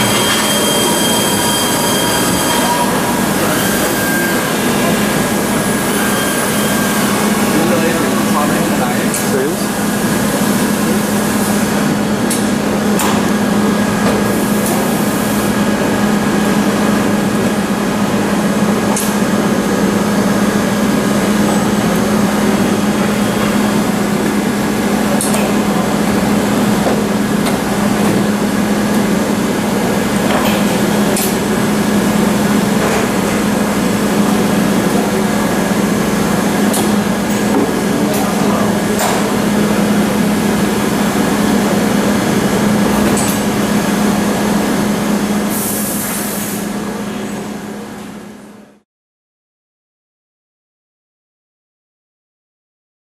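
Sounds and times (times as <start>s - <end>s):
milling machine humming: 0.0s - 46.0s.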